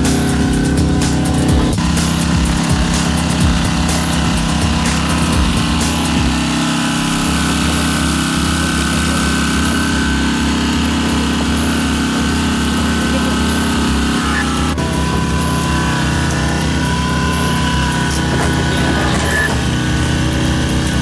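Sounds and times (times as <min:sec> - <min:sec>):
small petrol engine running: 0:00.0 - 0:21.0.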